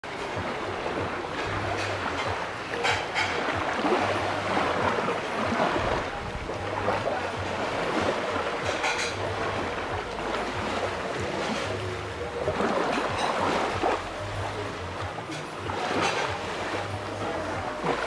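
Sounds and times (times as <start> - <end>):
rushing water and wind: 0.0 - 18.0.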